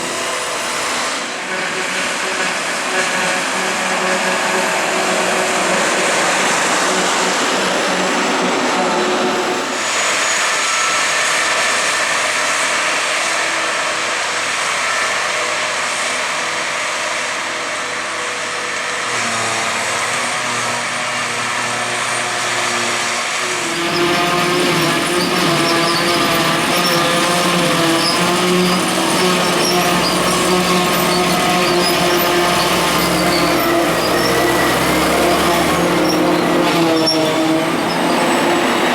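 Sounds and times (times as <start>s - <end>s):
farm machinery running: 0.0s - 38.9s.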